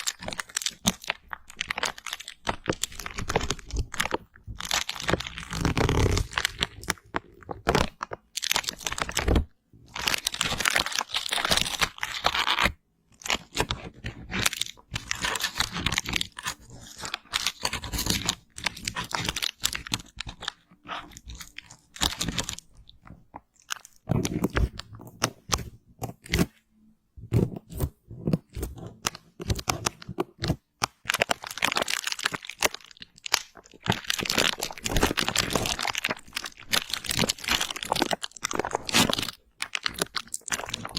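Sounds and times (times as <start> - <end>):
close-miked crunching and crackling: 0.0 - 40.9.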